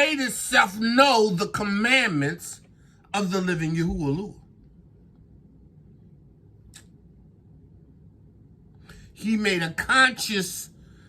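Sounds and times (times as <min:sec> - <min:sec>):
faint low room hum: 0:00.0 - 0:11.0.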